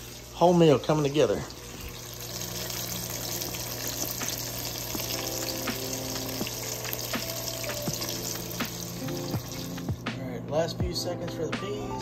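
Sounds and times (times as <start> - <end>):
fish frying in oil: 0.0 - 10.0.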